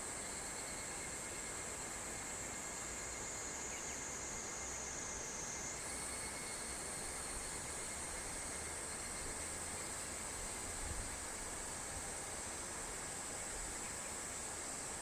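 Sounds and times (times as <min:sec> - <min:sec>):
cicadas chorus: 0:00.1 - 0:12.3.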